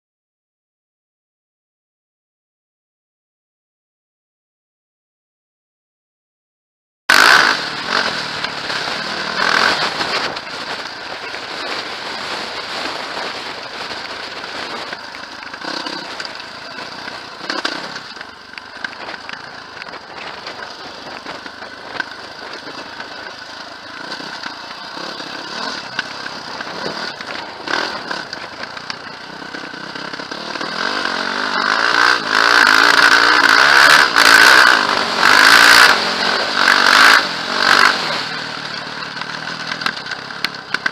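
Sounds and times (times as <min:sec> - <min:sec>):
off-road vehicle engine running: 0:07.1 - 0:40.9.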